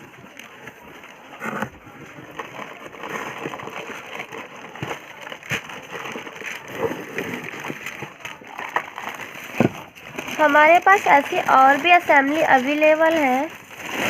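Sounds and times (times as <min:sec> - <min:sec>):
packaging rustling and crackling: 0:00.0 - 0:14.0.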